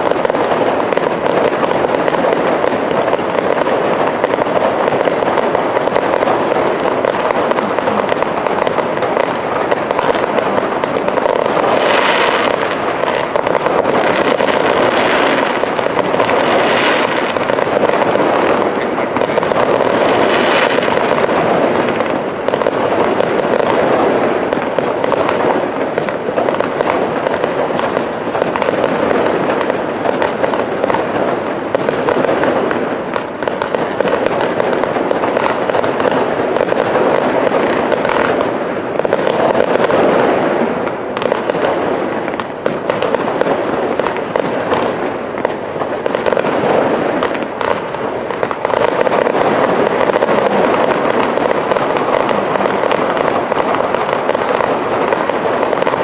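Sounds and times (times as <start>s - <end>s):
fireworks bursting and crackling: 0.0s - 56.0s
sharp firework reports: 0.0s - 56.0s.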